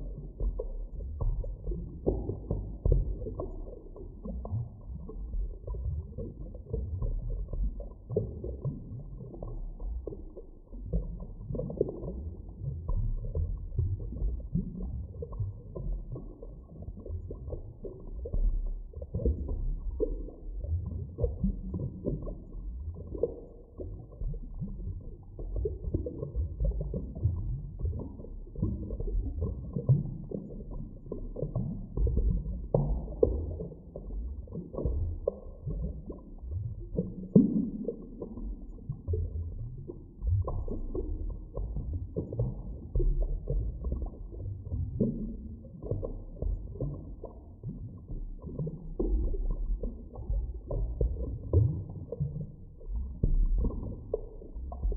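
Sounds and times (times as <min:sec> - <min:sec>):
low underwater rumble: 0:00.0 - 0:54.9
underwater gurgles and crackles: 0:00.0 - 0:54.9.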